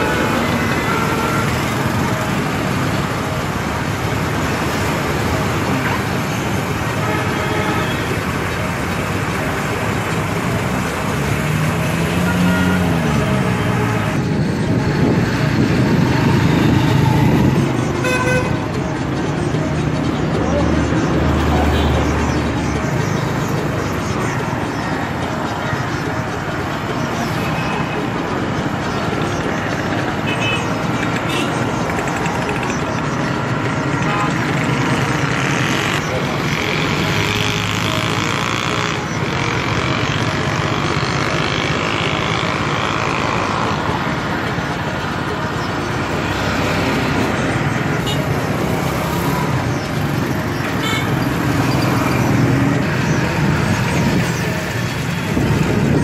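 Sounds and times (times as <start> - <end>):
road traffic noise: 0.0 - 56.0
vehicle engines and tyres: 0.0 - 56.0.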